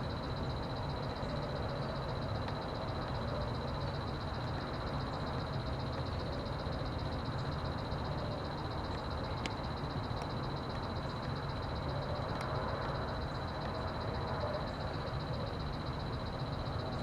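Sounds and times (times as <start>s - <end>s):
frogs trilling: 0.1s - 17.0s.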